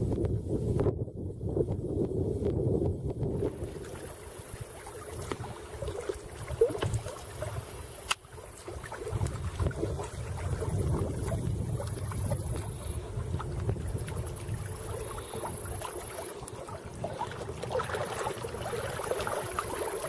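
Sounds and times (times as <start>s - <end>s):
wind gusting over microphone: 0.0s - 20.0s
small waves lapping: 3.4s - 20.0s.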